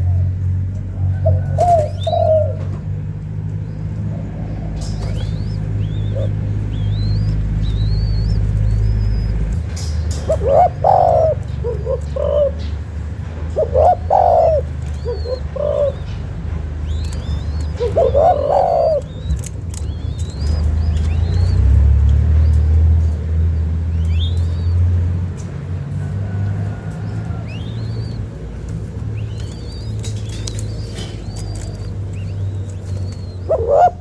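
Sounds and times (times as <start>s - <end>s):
dove cooing: 0.0s - 34.0s
small birds chirping faintly: 0.0s - 34.0s
steady low rumble: 0.0s - 34.0s.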